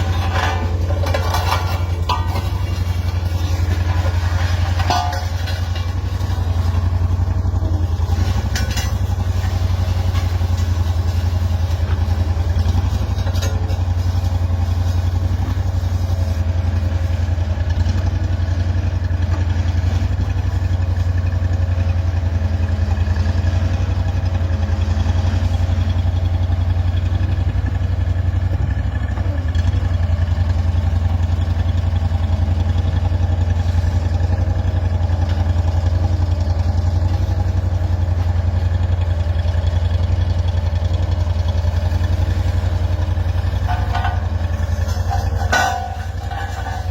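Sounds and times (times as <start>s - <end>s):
road roller diesel engine running: 0.0s - 46.9s.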